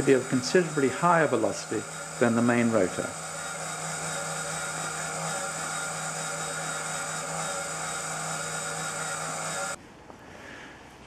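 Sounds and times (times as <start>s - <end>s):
model helicopter motor whining: 0.0s - 9.8s.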